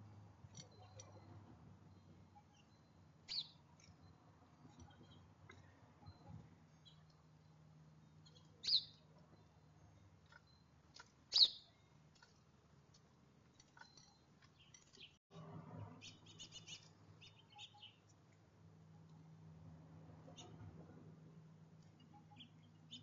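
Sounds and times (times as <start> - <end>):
songbirds chirping: 0.0 - 19.5, 20.2 - 23.0.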